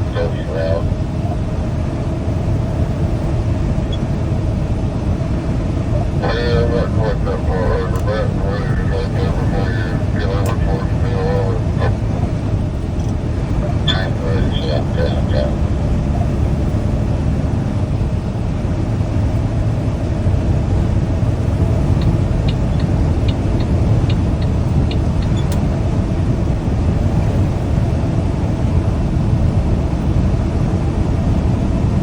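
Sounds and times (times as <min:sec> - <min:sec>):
truck engine and tyres rumbling: 0:00.0 - 0:32.0.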